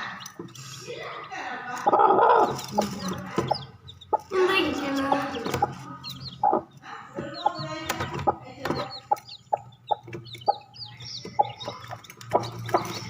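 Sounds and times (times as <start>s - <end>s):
hen clucking: 0.0s - 13.0s
high peeps: 0.0s - 13.0s.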